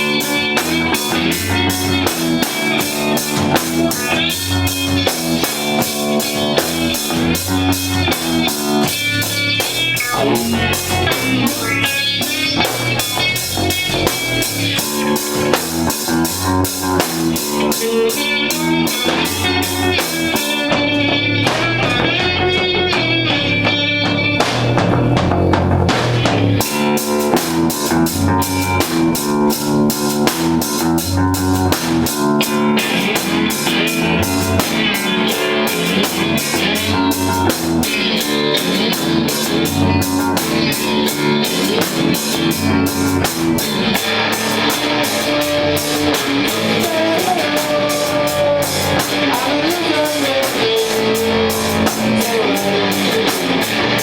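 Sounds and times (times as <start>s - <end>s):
bass guitar: 0.0s - 54.0s
distorted electric guitar: 0.0s - 54.0s
drum kit fast beat: 0.0s - 54.0s
pitch-bending melodic guitar line: 0.0s - 54.0s.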